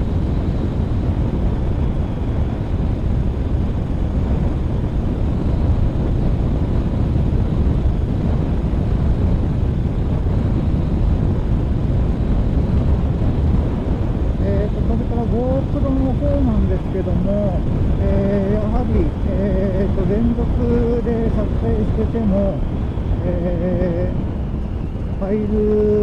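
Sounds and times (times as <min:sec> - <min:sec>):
motorcycle engine rumble: 0:00.0 - 0:26.0
road and wind noise: 0:00.0 - 0:26.0.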